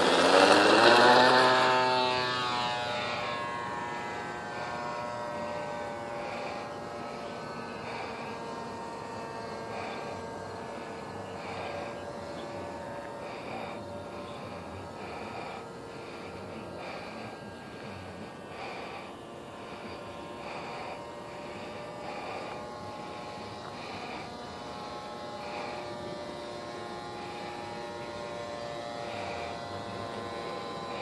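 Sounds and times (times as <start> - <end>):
model airplane motor drone: 0.0 - 31.0.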